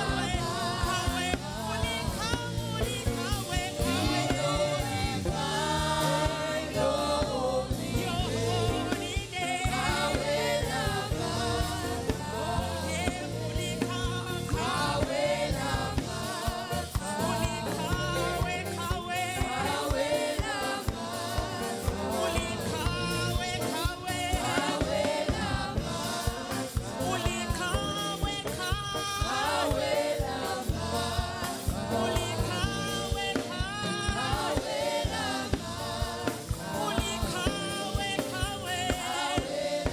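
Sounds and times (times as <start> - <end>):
band with bass and beat: 0.0 - 39.9
group singing gospel: 0.0 - 39.9.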